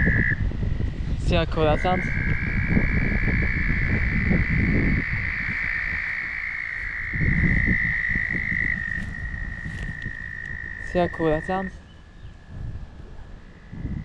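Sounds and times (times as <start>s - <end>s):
frogs trilling: 0.0s - 14.0s
low rumble: 0.0s - 14.0s.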